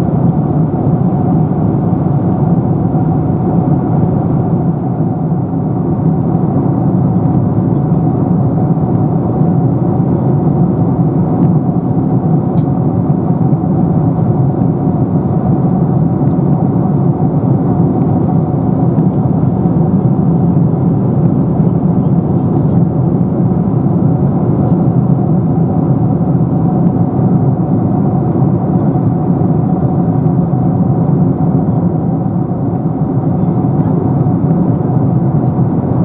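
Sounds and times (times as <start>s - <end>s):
airliner cabin engine rumble: 0.0s - 36.0s.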